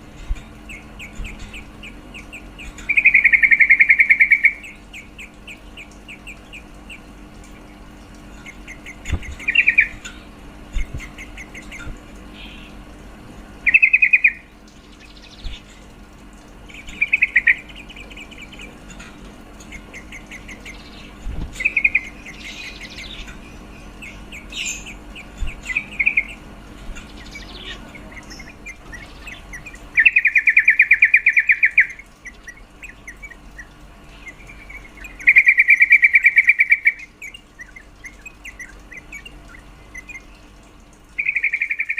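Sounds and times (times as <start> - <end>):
bulbul chattering calls: 0.7 - 7.1, 8.4 - 10.1, 13.6 - 15.6, 16.7 - 19.0, 19.7 - 40.4, 41.2 - 41.9.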